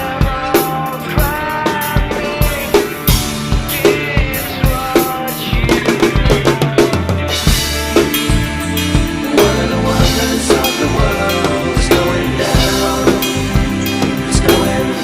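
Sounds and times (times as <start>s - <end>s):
drum kit playing: 0.0s - 15.0s
rock band recording: 0.0s - 15.0s.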